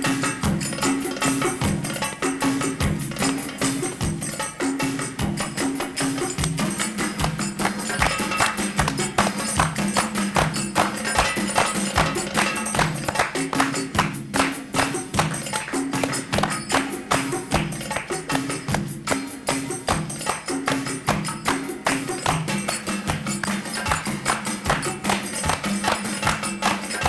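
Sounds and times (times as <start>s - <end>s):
band playing belly dance music: 0.0s - 27.0s
percussion beat: 0.0s - 27.0s.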